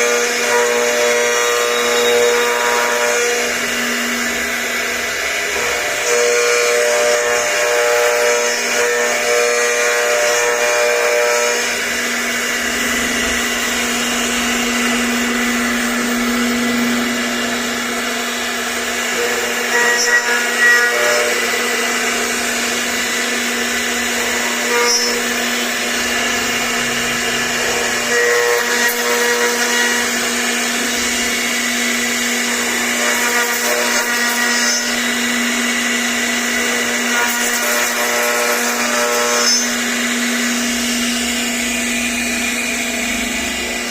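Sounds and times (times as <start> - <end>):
router spindle motor whine: 0.0 - 43.9.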